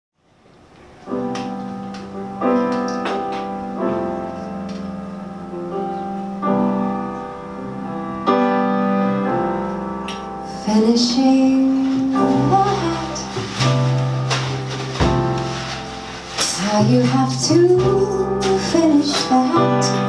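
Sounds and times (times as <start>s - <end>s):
piano chords: 0.2s - 20.0s.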